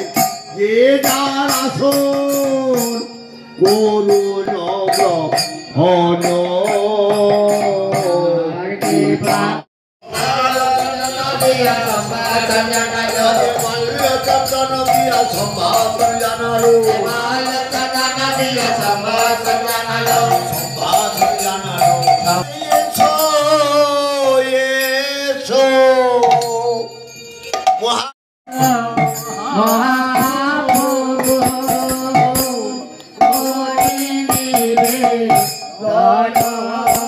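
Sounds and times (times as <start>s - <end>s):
percussion clatter: 0.0s - 25.0s, 26.2s - 37.0s
person singing devotional song: 0.0s - 27.0s, 28.5s - 37.0s.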